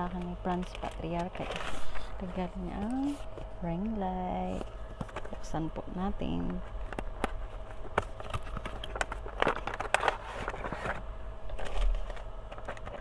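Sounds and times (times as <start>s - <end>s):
cardboard and plastic rustling: 0.0s - 3.5s, 4.4s - 5.6s, 6.3s - 13.0s.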